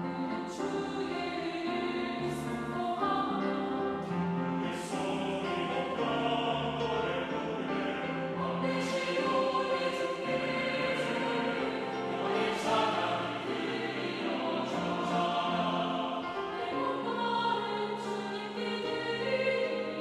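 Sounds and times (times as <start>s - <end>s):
mixed choir singing a hymn: 0.0s - 20.0s
piano accompaniment: 0.0s - 20.0s.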